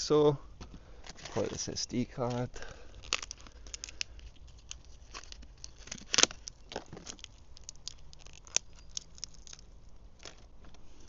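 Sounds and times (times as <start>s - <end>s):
rustling: 0.6s - 11.0s.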